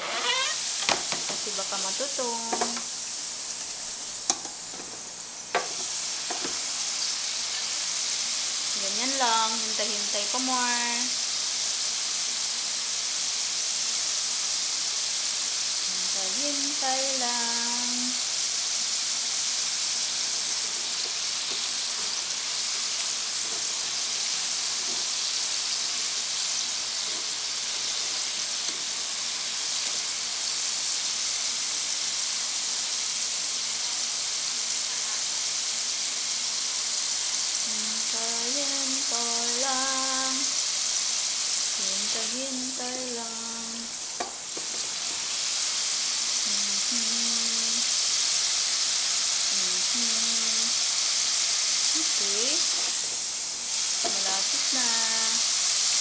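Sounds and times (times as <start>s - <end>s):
fries sizzling in deep fryer: 0.0s - 56.0s.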